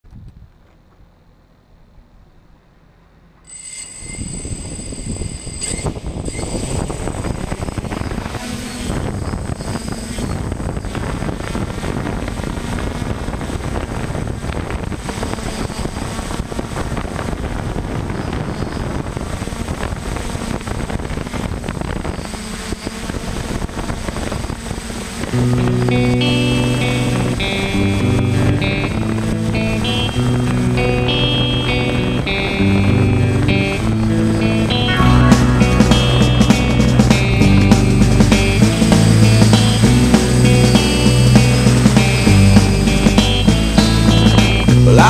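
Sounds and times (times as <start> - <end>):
rotor noise: 3.2 - 45.0
drone motors whining: 3.4 - 13.9, 17.8 - 45.0.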